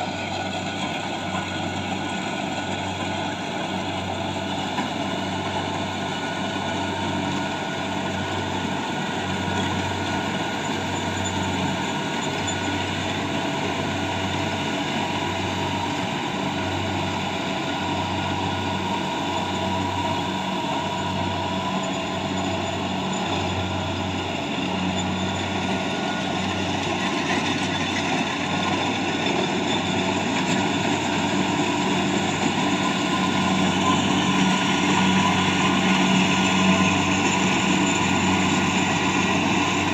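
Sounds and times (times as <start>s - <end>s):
combine harvester engine throbbing: 0.0s - 39.9s.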